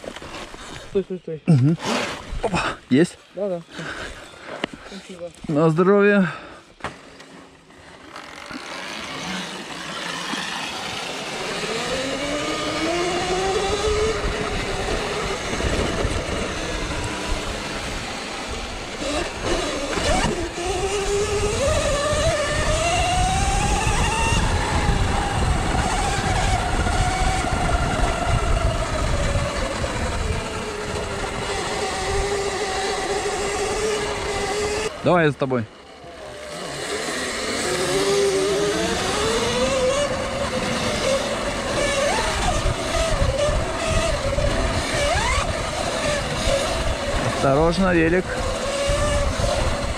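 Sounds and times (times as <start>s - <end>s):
electric motor whine: 3.7s - 49.9s.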